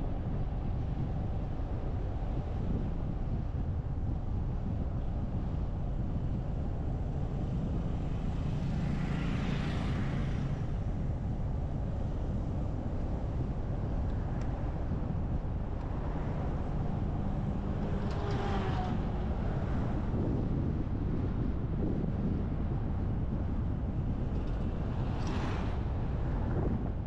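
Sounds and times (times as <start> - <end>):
car road and wind noise: 0.0 - 27.0.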